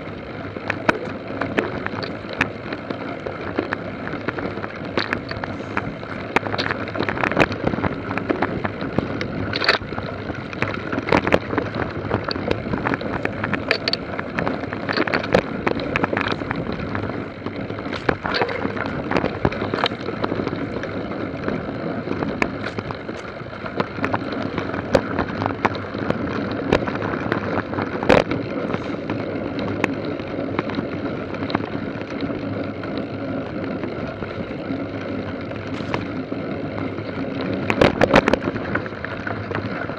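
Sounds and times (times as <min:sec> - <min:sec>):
bike rattling over bumps: 0:00.0 - 0:39.9
tyres rolling on rough track: 0:00.0 - 0:39.9.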